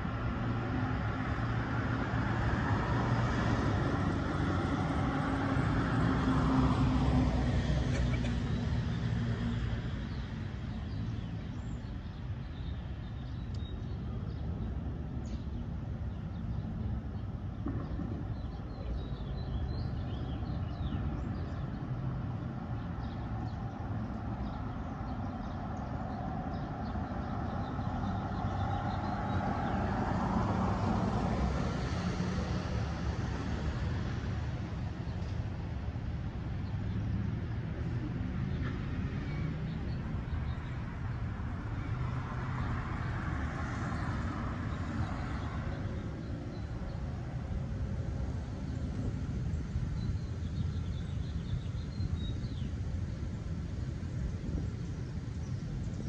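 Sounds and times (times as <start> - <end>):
low traffic rumble: 0.0 - 56.0.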